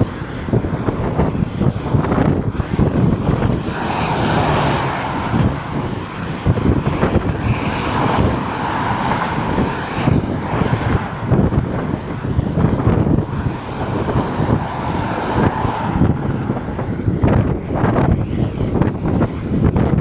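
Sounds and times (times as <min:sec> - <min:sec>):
steady rushing noise: 0:00.0 - 0:20.0
wind buffeting microphone: 0:00.0 - 0:20.0.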